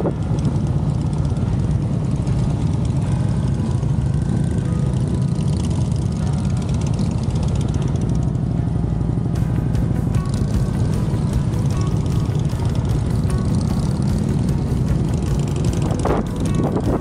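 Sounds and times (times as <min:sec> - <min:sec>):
motorcycle engine rumbling: 0:00.0 - 0:17.0
wind and road noise: 0:00.0 - 0:17.0.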